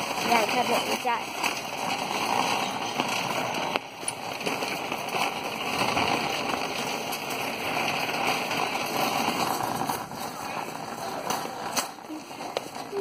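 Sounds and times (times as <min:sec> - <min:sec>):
shopping cart rattling: 0:00.0 - 0:13.0.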